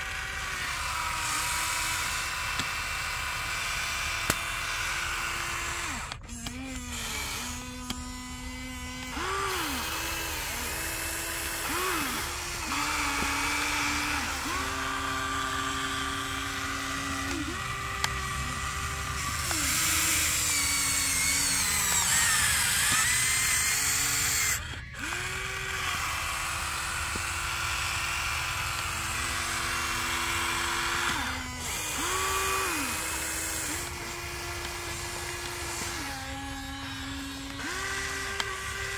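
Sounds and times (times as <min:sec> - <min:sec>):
toy excavator motors whining: 0:00.0 - 0:38.9.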